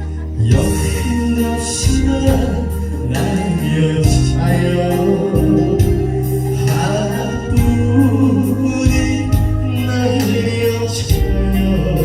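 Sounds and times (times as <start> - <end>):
backing track with beat and bass: 0.0 - 12.0
person singing ballad: 0.0 - 12.0.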